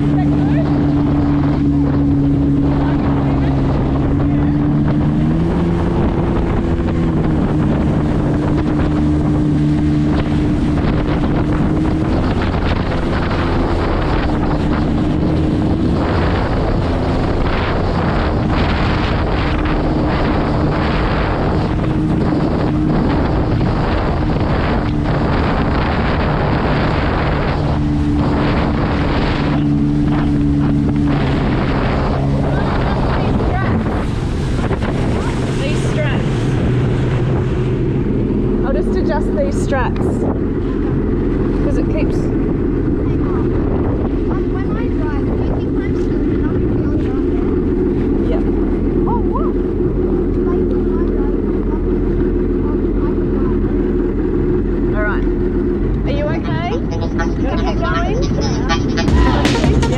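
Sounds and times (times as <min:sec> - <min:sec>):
jet ski engine running: 0:00.0 - 0:59.9
wind noise on microphone: 0:00.0 - 0:59.9.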